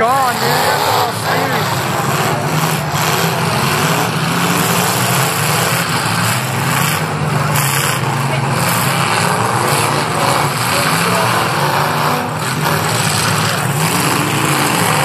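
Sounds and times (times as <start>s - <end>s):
car engines running loudly: 0.0s - 15.0s
crowd chatter: 0.0s - 15.0s.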